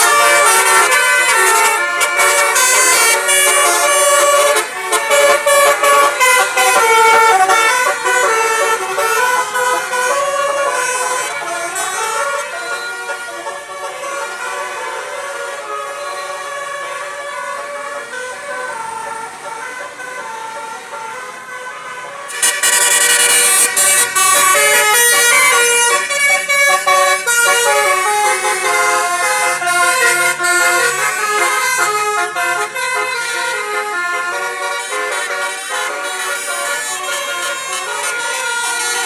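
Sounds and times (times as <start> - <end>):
multi-tone air horn: 0.0 - 17.1, 21.4 - 39.0.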